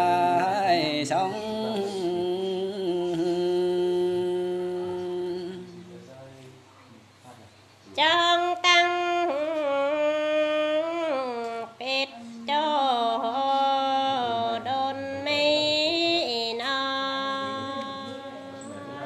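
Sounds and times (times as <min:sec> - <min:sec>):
woman singing unaccompanied: 0:00.0 - 0:05.9, 0:08.0 - 0:19.0.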